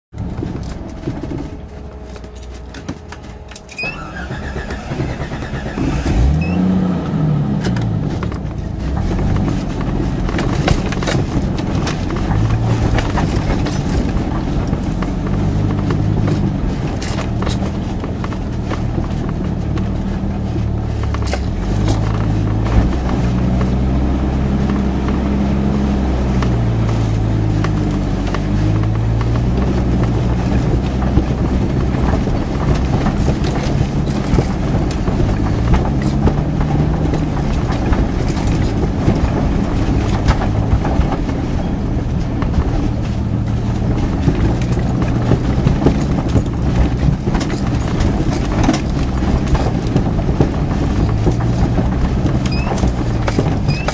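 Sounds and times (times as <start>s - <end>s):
car engine under load: 0.0s - 53.9s
knocks and rattles: 0.1s - 6.5s, 7.6s - 25.4s, 26.3s - 53.9s.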